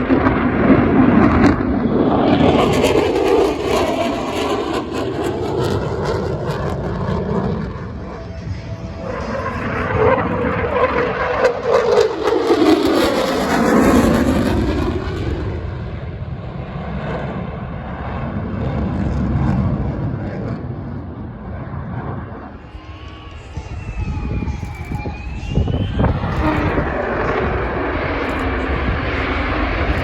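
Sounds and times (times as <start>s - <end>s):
jet roaring past: 0.0s - 30.0s.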